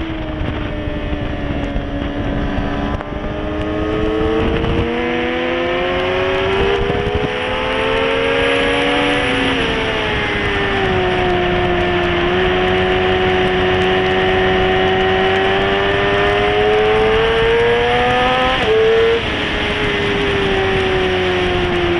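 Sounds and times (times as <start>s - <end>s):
motorcycle engine revving high: 0.0s - 21.9s
wind rushing: 0.0s - 21.9s.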